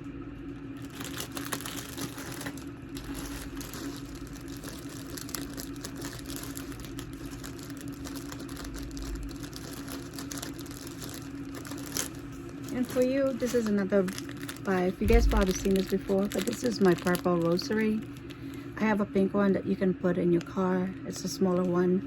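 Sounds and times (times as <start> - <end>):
steady low hum: 0.0 - 22.0
plastic packaging rustling: 0.6 - 18.8.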